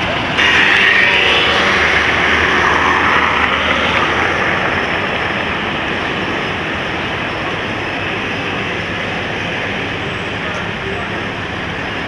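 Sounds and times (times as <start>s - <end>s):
dense car traffic: 0.0s - 12.0s.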